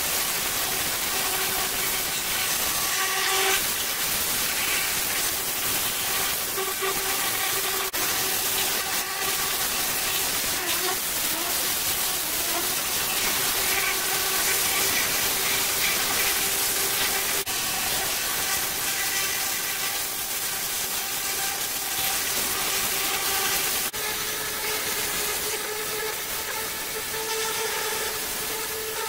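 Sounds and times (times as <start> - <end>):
pressure washer spraying water: 0.0 - 29.0.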